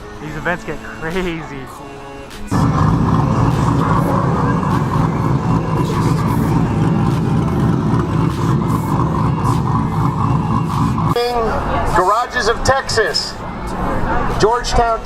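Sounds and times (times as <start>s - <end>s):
vehicle engine rumbling: 2.5s - 15.0s.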